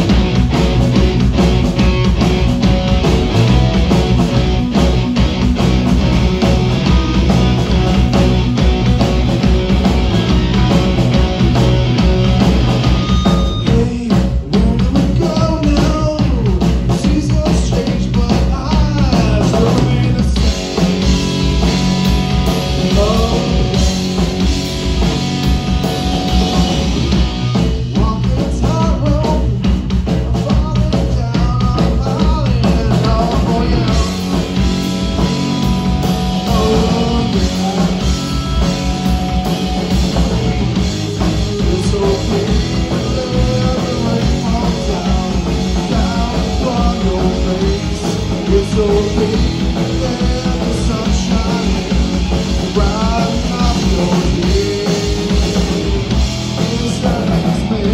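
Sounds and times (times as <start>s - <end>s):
drum kit: 0.0s - 57.9s
electric guitars: 0.0s - 57.9s.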